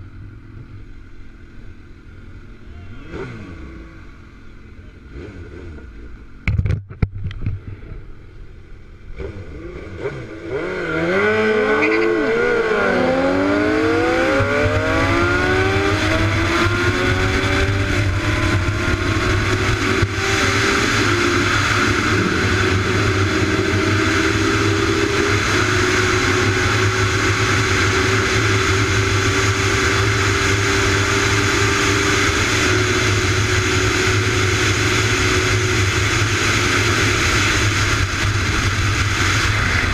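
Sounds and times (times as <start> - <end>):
wind and road noise: 0.0 - 39.9
vehicle engine accelerating: 2.3 - 39.9.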